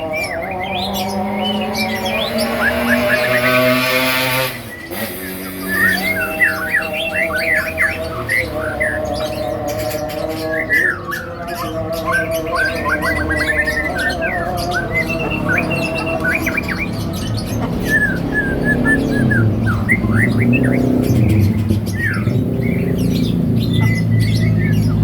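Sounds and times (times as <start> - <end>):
bird singing and calling: 0.0 - 25.0.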